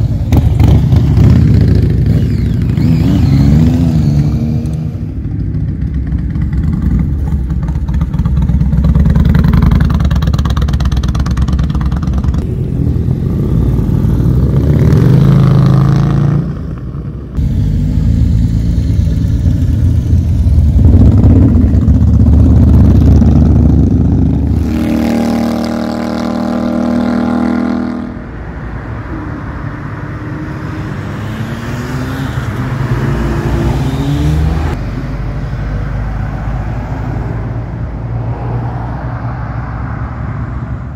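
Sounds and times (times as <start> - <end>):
motorcycle engines passing: 0.0 - 28.4, 29.3 - 40.9.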